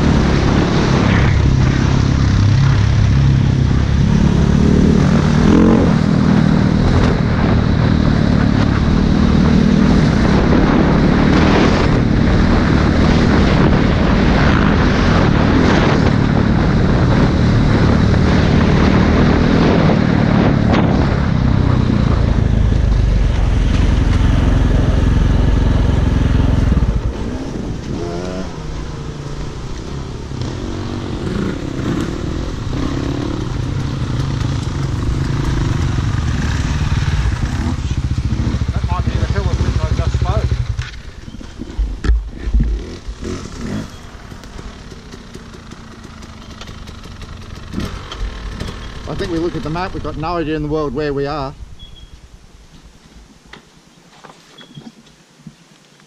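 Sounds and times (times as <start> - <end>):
dirt bike engine under throttle: 0.0 - 52.2.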